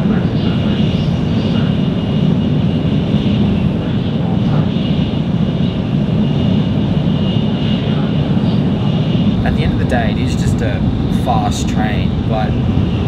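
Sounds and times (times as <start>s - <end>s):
train rumble inside cabin: 0.0s - 13.0s.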